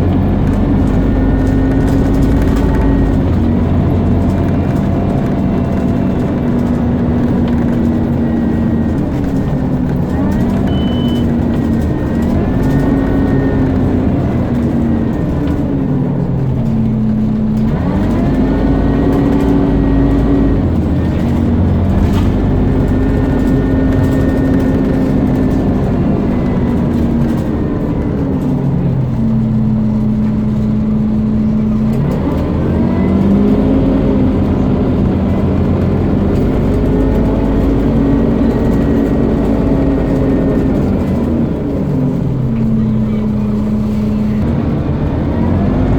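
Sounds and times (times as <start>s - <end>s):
bus engine whining: 0.0s - 45.9s.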